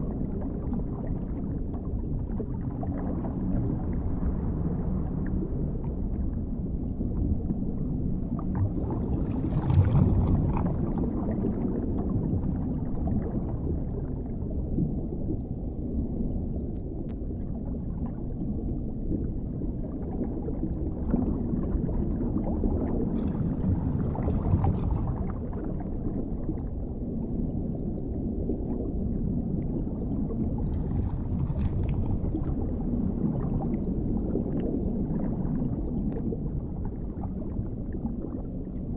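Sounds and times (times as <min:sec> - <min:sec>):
deep underwater rumble: 0:00.0 - 0:38.9
faint bubbling gurgles: 0:00.0 - 0:38.9.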